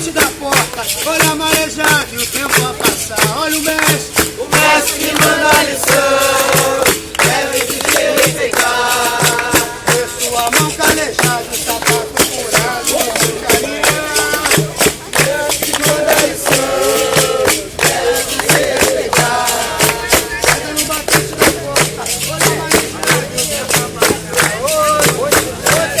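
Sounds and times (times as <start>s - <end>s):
berimbau with rattle: 0.0s - 26.0s
hand percussion beat: 0.0s - 26.0s
people singing: 0.0s - 26.0s.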